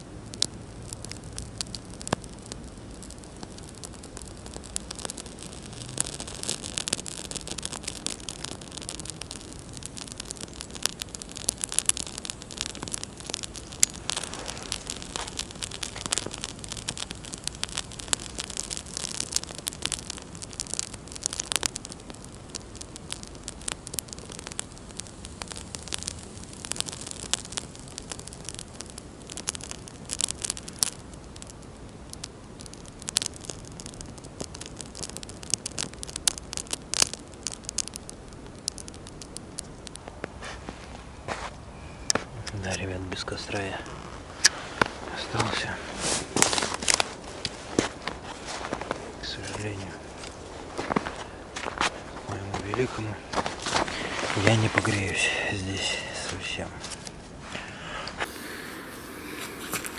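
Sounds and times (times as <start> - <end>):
fire hiss: 0.0 - 59.9
kindling crackling and popping: 0.0 - 59.9.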